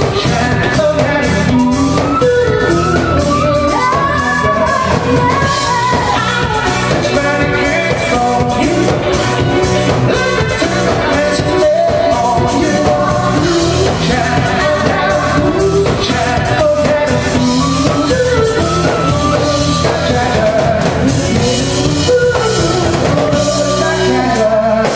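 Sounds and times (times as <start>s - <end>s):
drum kit: 0.0s - 24.9s
electric guitars: 0.0s - 24.9s
keyboard: 0.0s - 24.9s
person singing: 0.0s - 24.9s.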